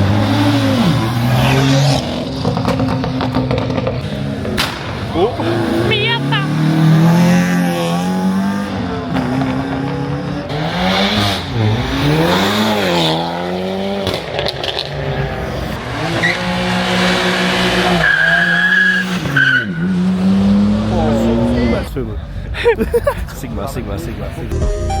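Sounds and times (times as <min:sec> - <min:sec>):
tires squealing: 0:00.0 - 0:22.2
car engine revving: 0:00.0 - 0:24.5.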